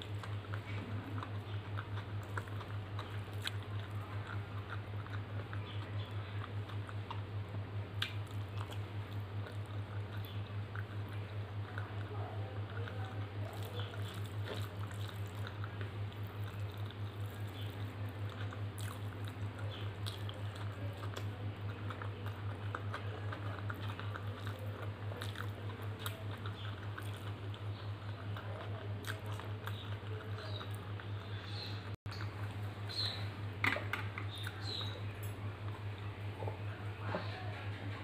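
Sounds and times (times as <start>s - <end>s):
fingers squishing rice: 0.0s - 37.5s
wet chewing and lip-smacking: 0.0s - 37.5s
steady low hum: 0.0s - 38.0s.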